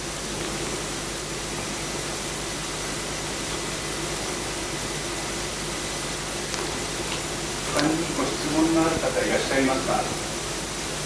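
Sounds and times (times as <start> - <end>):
room hiss: 0.0 - 11.0.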